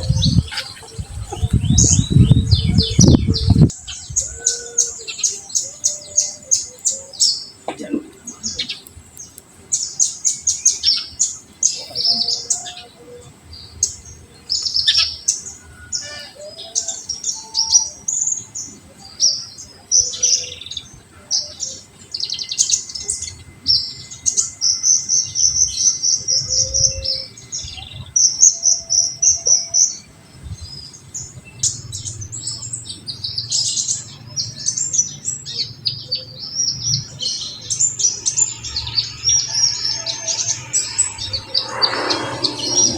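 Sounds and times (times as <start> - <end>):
sunbird singing rapid chirps: 8.3 - 42.9.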